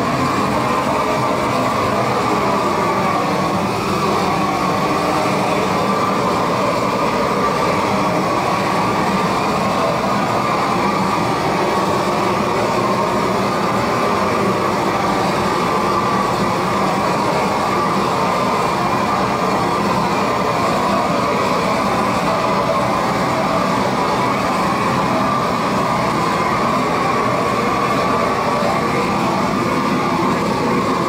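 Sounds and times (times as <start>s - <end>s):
propane torch burner rushing: 0.0s - 31.0s.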